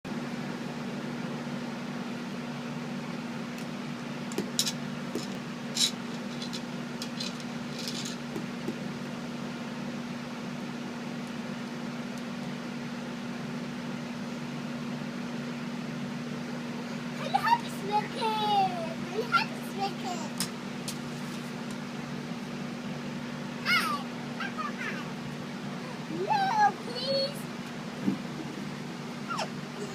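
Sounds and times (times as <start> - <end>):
low mechanical hum: 0.0 - 29.9.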